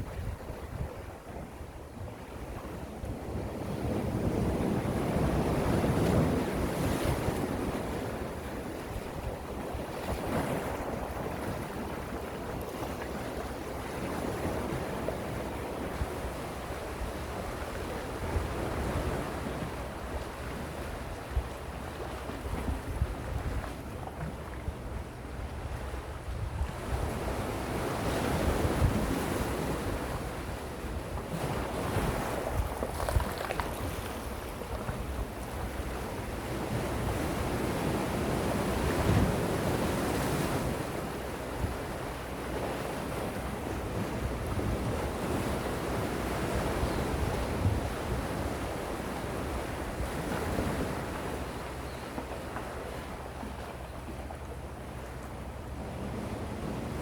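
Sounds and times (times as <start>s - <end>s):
wind buffeting microphone: 0.0s - 52.1s
sea waves washing ashore: 0.0s - 57.0s.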